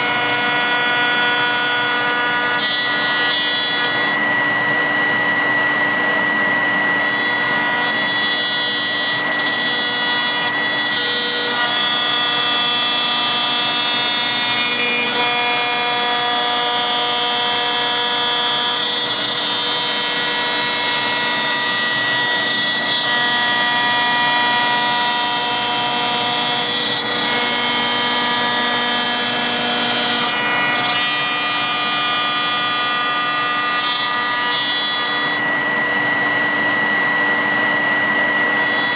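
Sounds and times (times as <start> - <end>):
router spindle whine: 0.0 - 38.9
rushing noise of cutting wood: 0.0 - 38.9.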